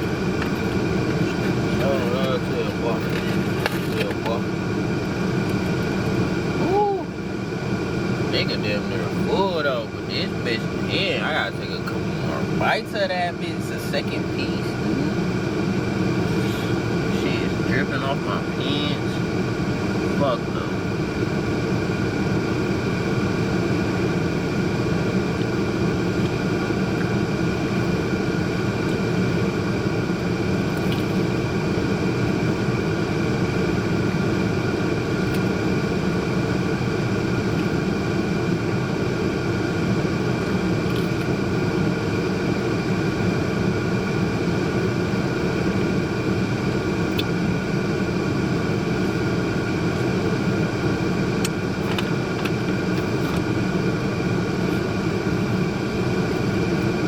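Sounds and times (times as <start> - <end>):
car engine drone in cabin: 0.0 - 57.0
ventilation fan: 0.0 - 57.0.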